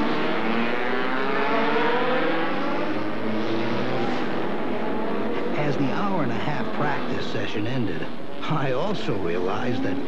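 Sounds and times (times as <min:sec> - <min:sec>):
racing cars passing at high revs: 0:00.0 - 0:10.0.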